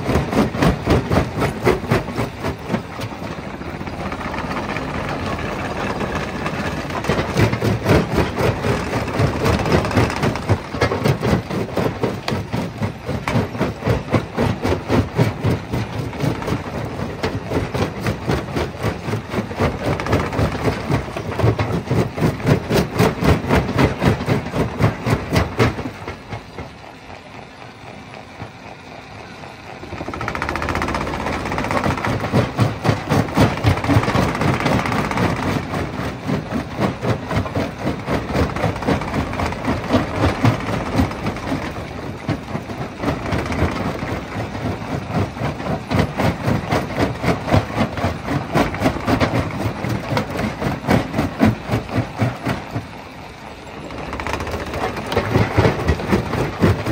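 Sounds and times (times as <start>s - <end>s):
rock crusher pounding: 0.0s - 27.0s, 29.7s - 56.9s.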